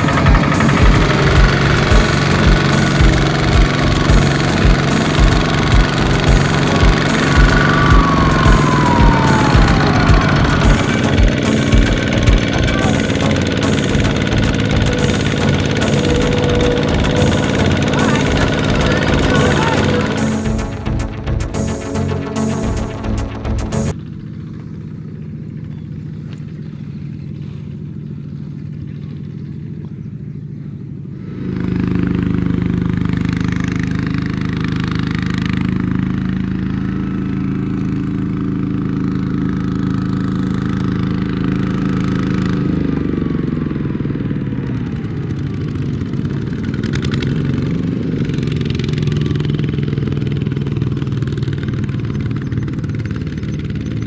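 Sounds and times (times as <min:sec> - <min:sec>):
mini tractor engine running: 0:00.0 - 0:54.0.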